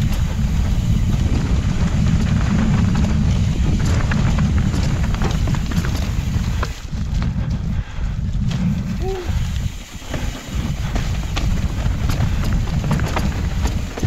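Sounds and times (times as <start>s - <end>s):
bike tyres clicking and rattling: 0.0s - 14.0s
wind rumbling on microphone: 0.0s - 14.0s.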